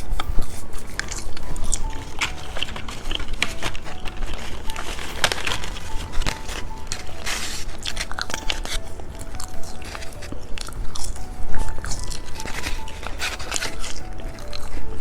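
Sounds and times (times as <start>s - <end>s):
candy crackling and crunching: 0.0s - 15.0s
faint background music: 0.0s - 15.0s.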